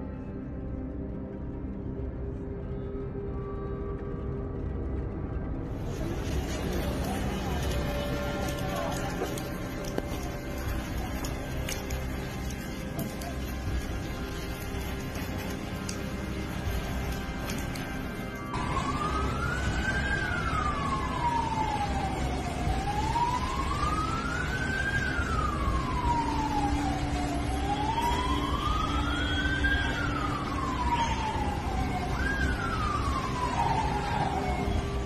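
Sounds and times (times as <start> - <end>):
steady low noise: 0.0 - 35.0
siren wailing: 2.5 - 35.0.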